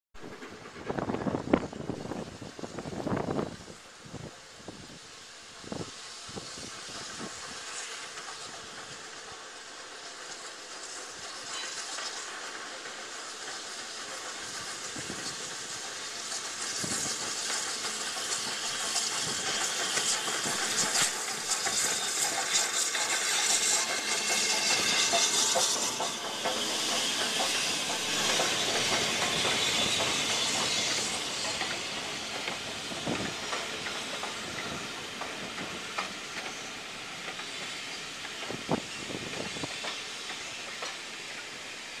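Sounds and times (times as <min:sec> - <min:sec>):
steam locomotive hissing: 0:00.2 - 0:42.0.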